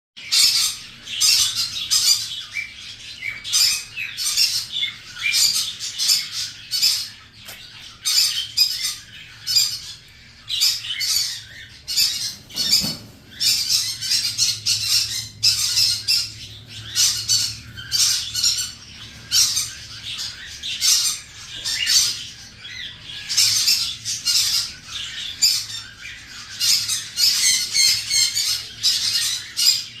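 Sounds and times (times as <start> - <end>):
cockatiels squawking: 0.2 - 30.0.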